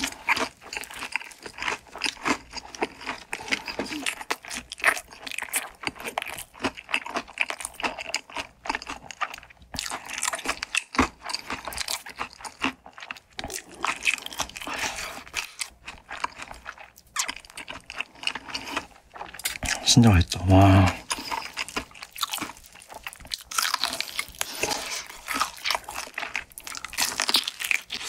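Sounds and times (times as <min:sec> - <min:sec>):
crunching crispy fried food: 0:00.0 - 0:28.0.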